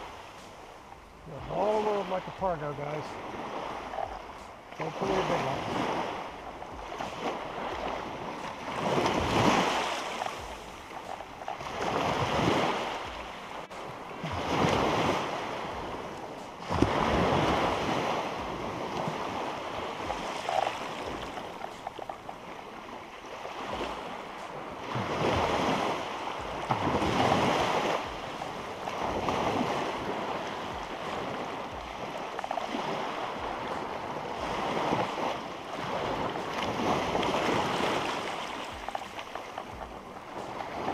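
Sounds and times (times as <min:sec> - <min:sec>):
surf breaking on beach: 0:04.8 - 0:40.9.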